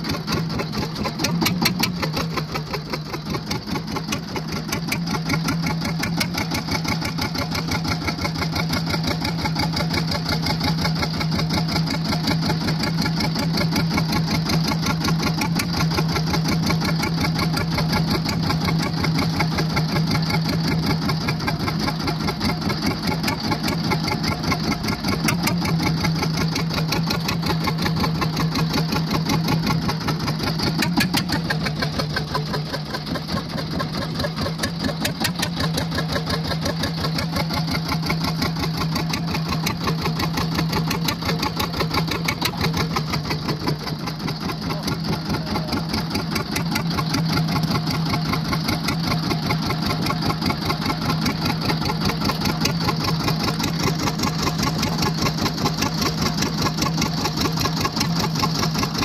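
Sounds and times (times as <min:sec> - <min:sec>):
boat engine chugging: 0:00.0 - 0:59.0.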